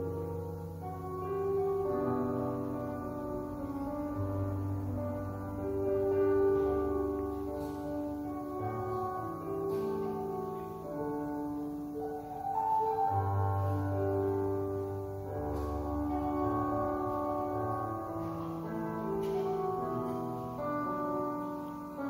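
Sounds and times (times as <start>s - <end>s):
slow electronic keyboard music: 0.0s - 22.0s.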